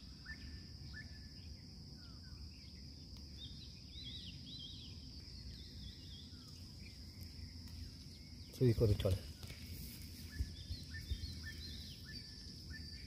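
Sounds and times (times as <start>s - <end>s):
bird chirping: 0.0s - 13.0s
insect drone: 0.0s - 13.0s.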